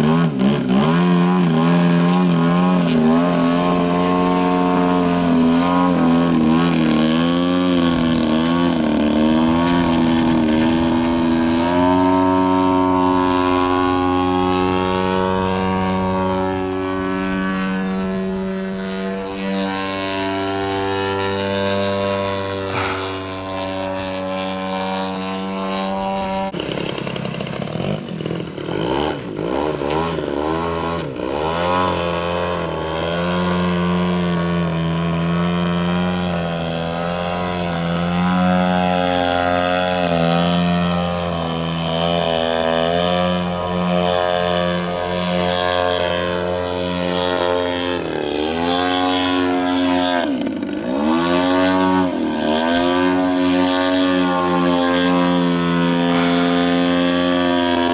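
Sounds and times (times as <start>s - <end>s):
model airplane engine: 0.0s - 57.9s.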